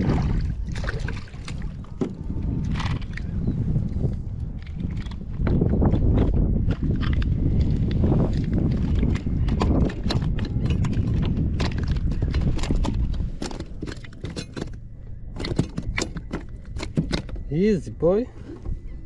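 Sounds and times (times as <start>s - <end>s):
fish thrashing against plastic kayak: 0.0s - 3.4s, 4.5s - 17.5s
low rumble: 0.0s - 19.0s.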